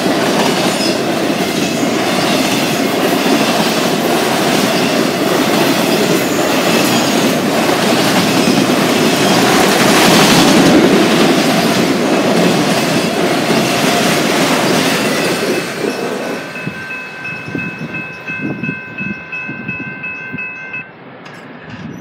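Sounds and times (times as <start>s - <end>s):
crossing bell ringing: 0.0s - 10.2s, 13.0s - 21.0s
freight train cars rolling: 0.0s - 22.0s.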